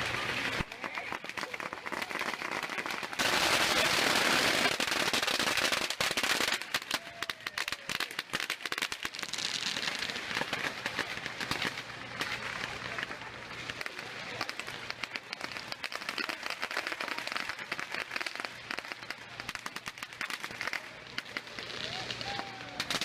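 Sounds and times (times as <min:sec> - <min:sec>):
firecrackers crackling and popping: 0:00.0 - 0:23.0.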